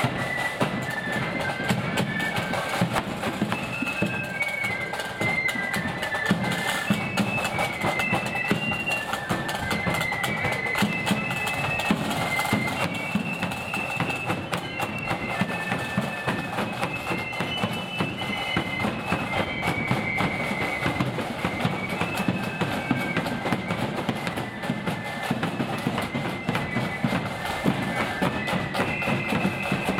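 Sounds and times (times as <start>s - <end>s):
flutes playing in unison: 0.0s - 29.9s
snare drums: 0.0s - 29.9s.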